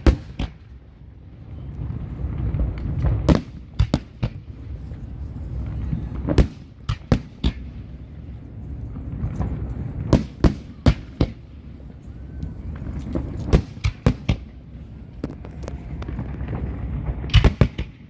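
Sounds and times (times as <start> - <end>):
fireworks bangs: 0.0 - 18.0
steady low rumble: 0.0 - 18.0.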